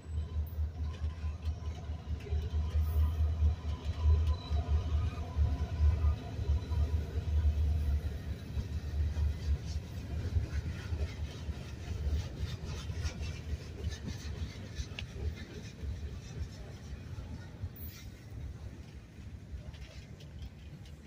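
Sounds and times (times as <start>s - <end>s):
freight cars rumbling on rails: 0.0s - 21.0s.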